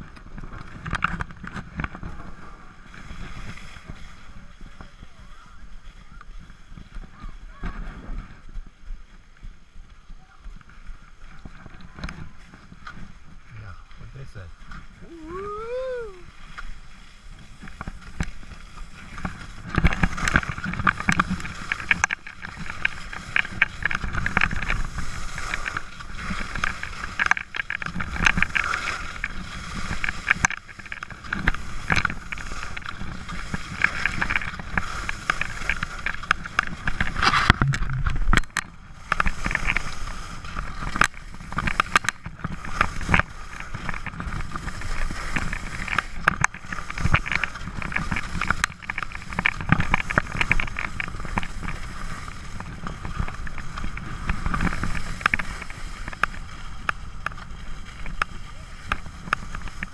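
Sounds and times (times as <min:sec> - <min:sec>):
skis sliding over snow: 0:00.0 - 0:59.9
wind on microphone: 0:00.0 - 0:59.9.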